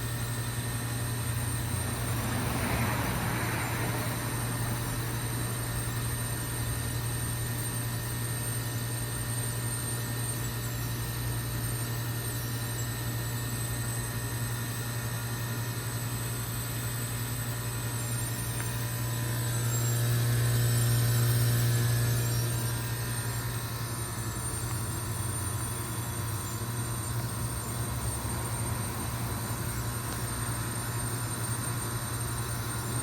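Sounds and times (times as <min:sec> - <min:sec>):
heat pump compressor hum: 0:00.0 - 0:33.0.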